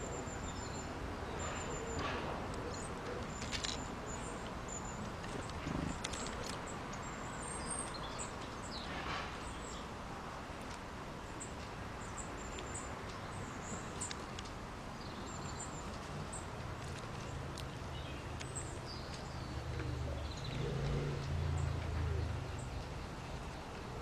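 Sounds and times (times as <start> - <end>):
small birds chirping: 0.0 - 10.0, 11.2 - 24.0.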